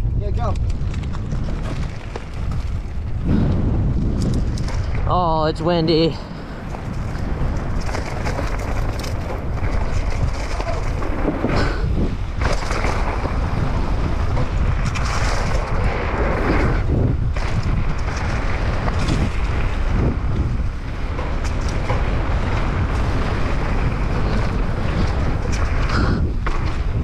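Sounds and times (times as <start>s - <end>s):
tyres rolling on dirt trail: 0.0s - 27.0s
wind buffeting microphone: 0.0s - 27.0s.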